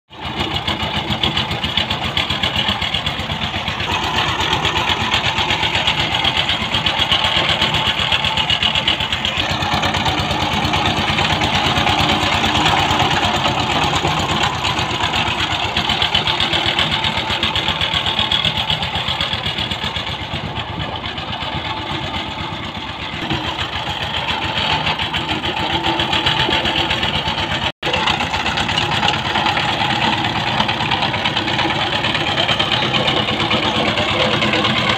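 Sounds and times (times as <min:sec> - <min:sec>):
tiller diesel engine chugging: 0:00.1 - 0:34.9.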